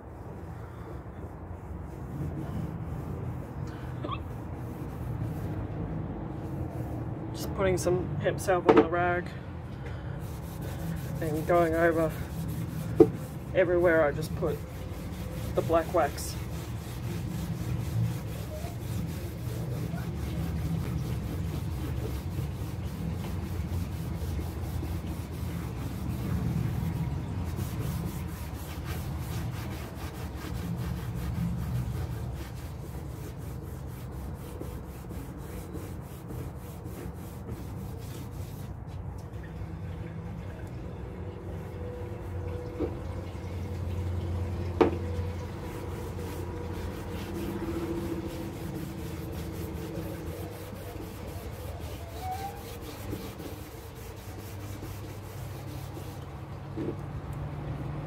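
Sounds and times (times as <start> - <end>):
cloth rag wiping wood: 0.0 - 9.2, 10.1 - 39.1, 44.8 - 56.9.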